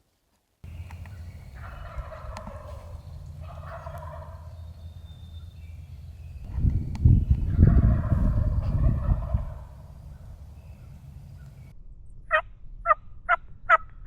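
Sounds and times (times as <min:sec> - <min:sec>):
low rumble: 0:00.6 - 0:14.0
turkey gobbling: 0:00.7 - 0:06.6, 0:07.4 - 0:11.7, 0:12.3 - 0:13.8.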